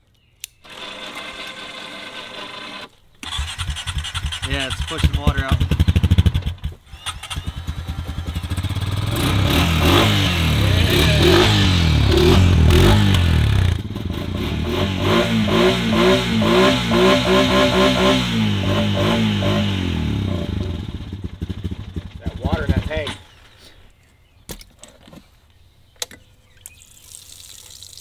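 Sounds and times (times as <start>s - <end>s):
atv engine revving: 0.7s - 23.5s.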